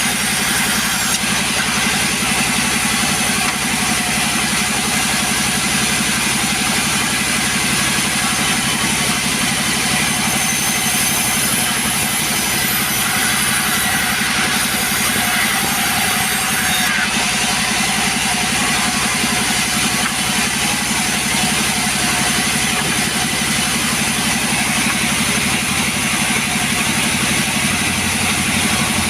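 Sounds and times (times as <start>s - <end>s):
chainsaw engine running: 0.0s - 29.0s.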